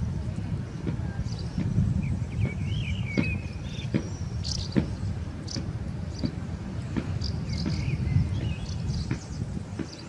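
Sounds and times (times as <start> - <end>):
small birds chirping: 0.0 - 10.0
steady low rumble: 0.0 - 10.0.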